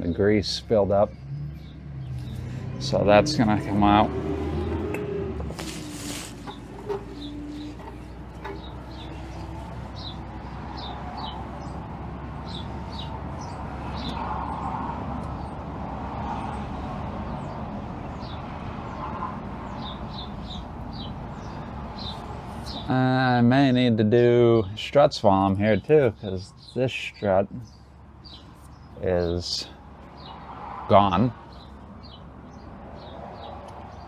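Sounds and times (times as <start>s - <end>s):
birds chirping: 0.0s - 15.6s, 16.3s - 24.0s, 24.6s - 34.0s.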